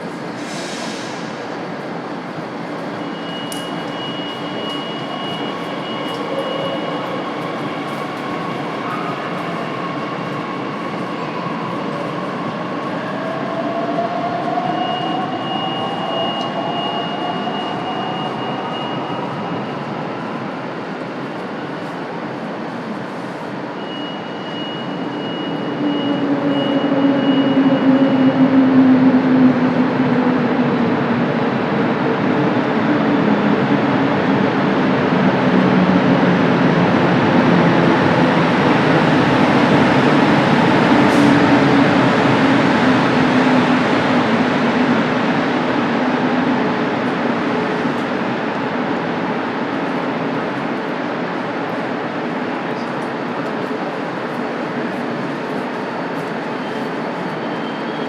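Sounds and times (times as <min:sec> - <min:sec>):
train rushing past platform: 0:00.0 - 0:58.0.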